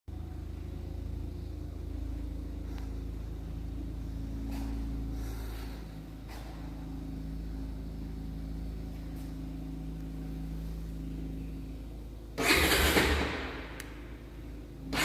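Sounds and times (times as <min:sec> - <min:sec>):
motorcycle engine idling and revving: 0:00.1 - 0:15.0.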